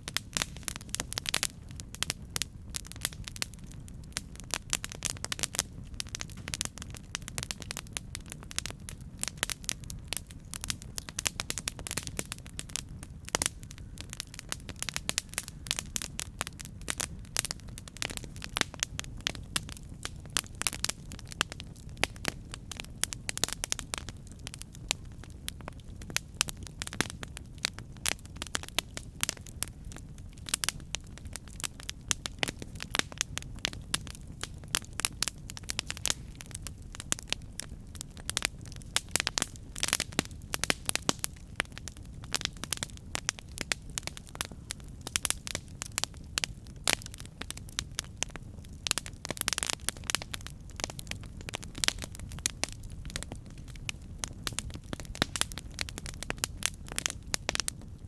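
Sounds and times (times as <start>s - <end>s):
burning wood crackles and pops: 0.0s - 58.0s
low rumble of flame: 0.0s - 58.0s.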